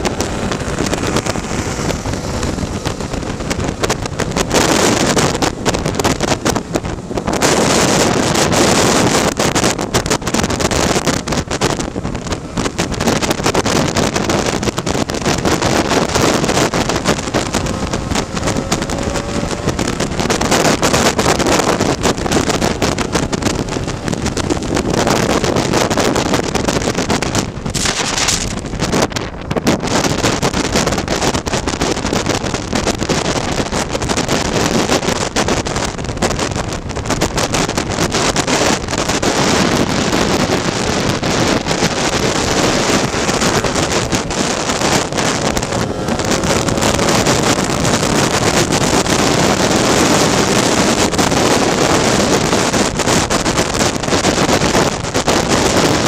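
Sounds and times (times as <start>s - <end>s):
scooter engine running: 0.0s - 56.0s
wind buffeting microphone: 0.0s - 56.0s.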